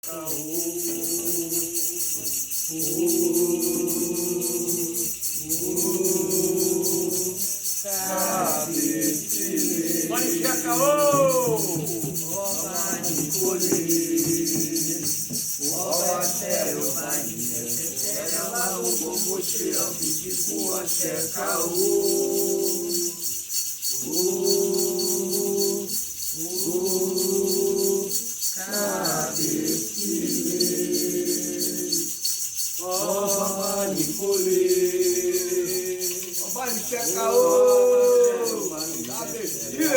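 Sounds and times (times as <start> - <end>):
rattle shaken rhythmically: 0.0 - 39.9
voices singing a chant: 0.0 - 39.9.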